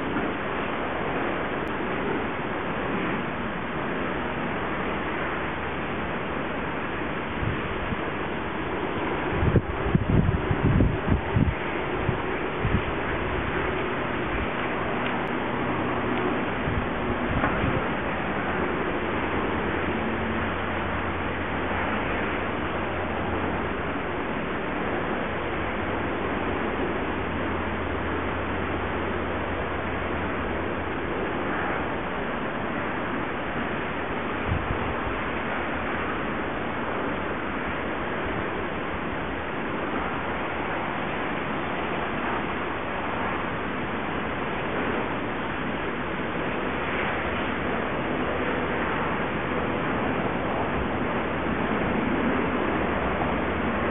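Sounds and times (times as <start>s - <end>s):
low hum: 0.0s - 53.9s
steady rushing noise: 0.0s - 53.9s.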